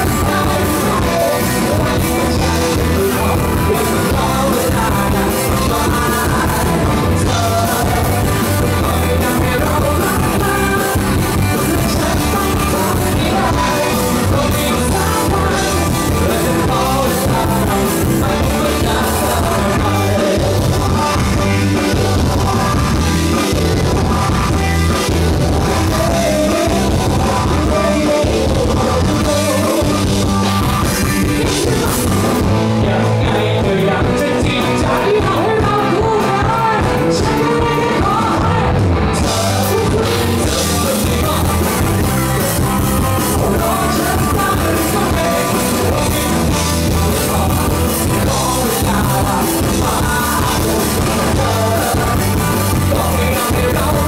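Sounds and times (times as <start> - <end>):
live rock band: 0.0 - 54.0
person singing: 0.0 - 54.0.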